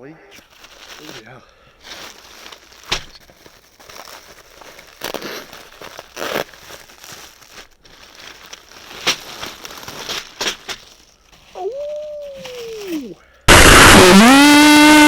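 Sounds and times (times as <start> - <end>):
packing material rustling: 0.4 - 1.2, 1.8 - 13.0.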